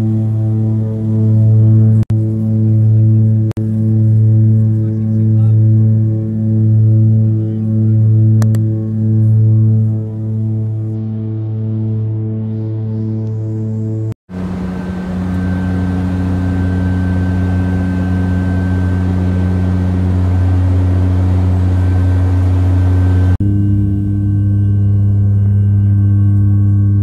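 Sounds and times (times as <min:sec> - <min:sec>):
propeller and engine drone: 0:00.0 - 0:27.0.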